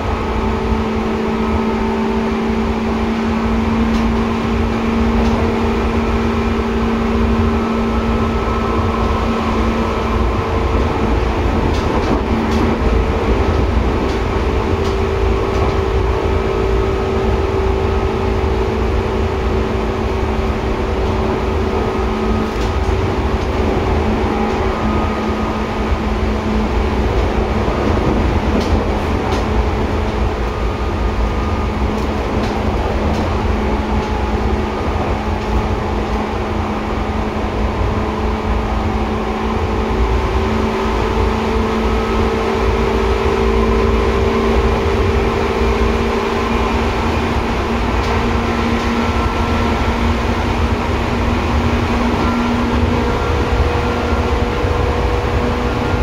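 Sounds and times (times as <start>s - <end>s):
electric train hum: 0.0s - 56.0s
train wheels rumbling on rail: 0.0s - 56.0s.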